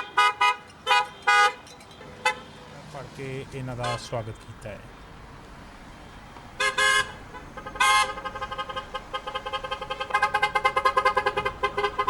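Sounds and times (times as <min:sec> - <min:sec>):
car horns honking: 0:00.0 - 0:05.0, 0:06.6 - 0:12.0.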